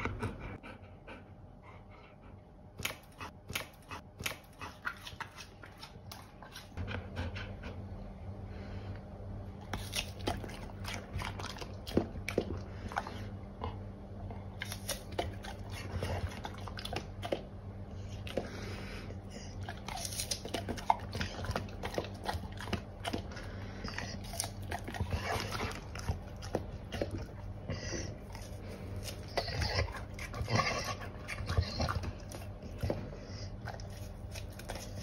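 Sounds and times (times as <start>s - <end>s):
dog crunching pear: 2.8s - 6.9s, 9.6s - 35.0s.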